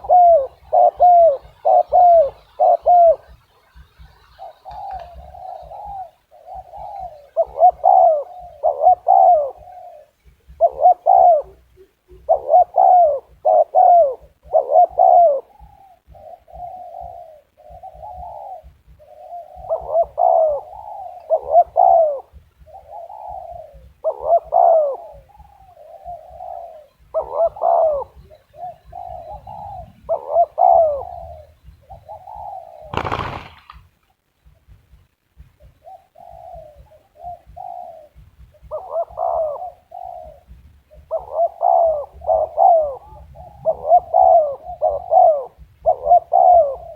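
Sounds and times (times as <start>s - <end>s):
dove cooing: 0.0s - 34.7s, 35.4s - 46.9s.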